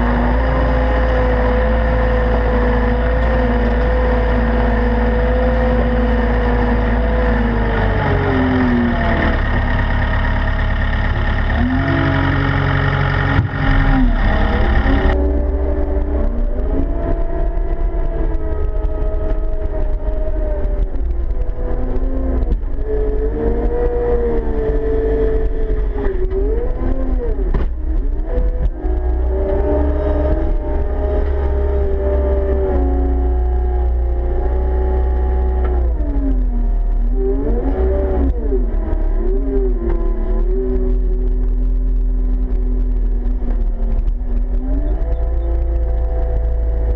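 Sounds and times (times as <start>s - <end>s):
loader diesel engine running: 0.0s - 46.9s.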